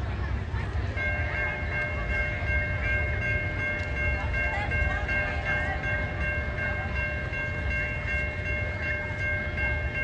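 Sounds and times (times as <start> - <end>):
crossing warning bell ringing: 0.0 - 10.0.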